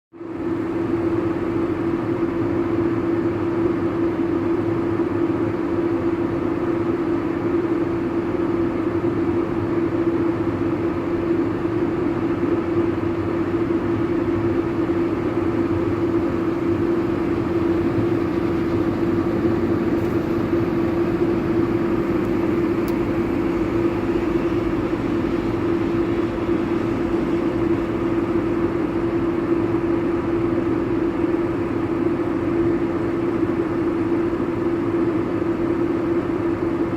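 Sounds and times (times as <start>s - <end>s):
combine harvester running: 0.2s - 36.9s.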